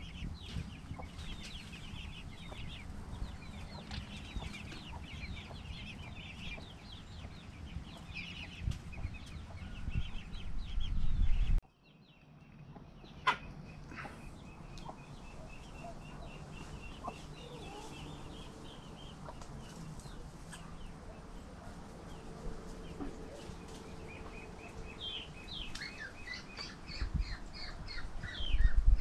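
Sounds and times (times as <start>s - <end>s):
high chirps and peeps: 0.0s - 29.0s
hens clucking: 0.5s - 9.6s, 12.7s - 28.4s.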